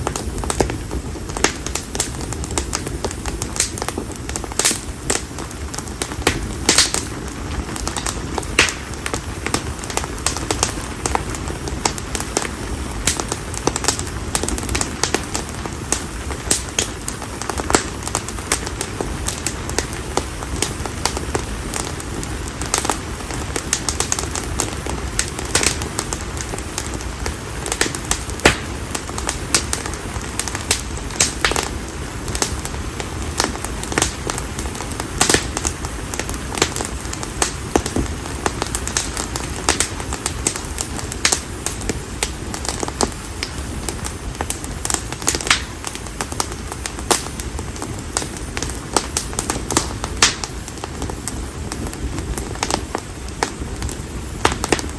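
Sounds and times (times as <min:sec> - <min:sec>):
campfire crackling: 0:00.0 - 0:54.9
steady flame noise: 0:00.0 - 0:54.9.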